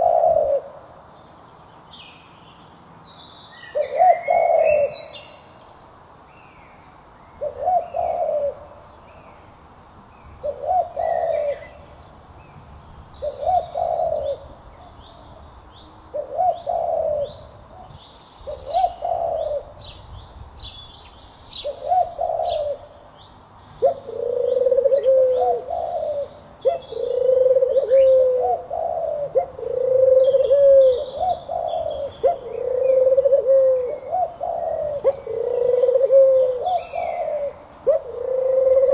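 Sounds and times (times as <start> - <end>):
small birds high calls: 6.4 - 38.9.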